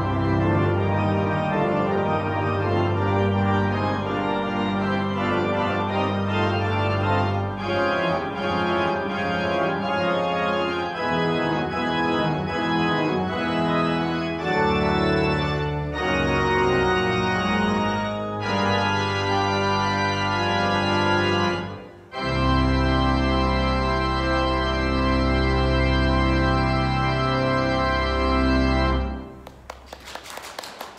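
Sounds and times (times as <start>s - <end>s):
organ playing slow chords: 0.0s - 29.4s.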